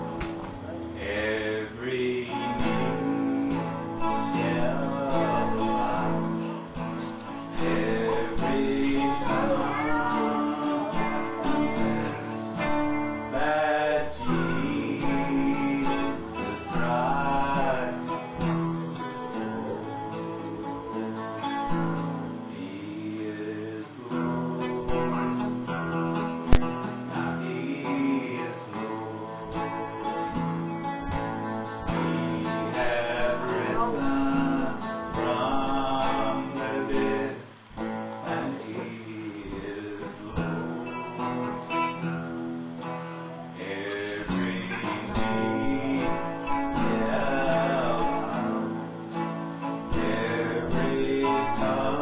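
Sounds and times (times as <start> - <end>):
man singing: 0.0 - 30.4, 31.1 - 42.1, 43.5 - 52.0
acoustic guitar music: 0.0 - 52.0.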